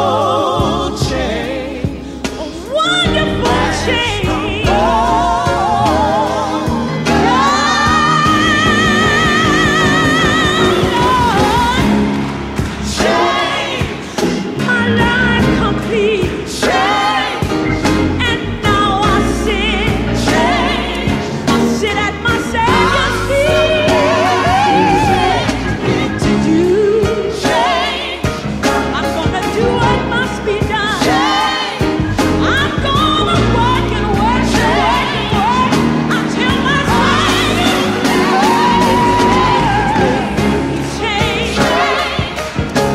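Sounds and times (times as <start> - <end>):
band accompaniment: 0.0 - 42.9.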